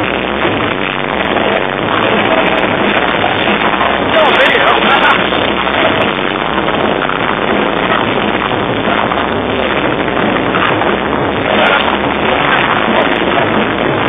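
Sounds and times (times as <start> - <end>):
crowd noise: 0.0 - 14.0
distorted party music: 0.0 - 14.0.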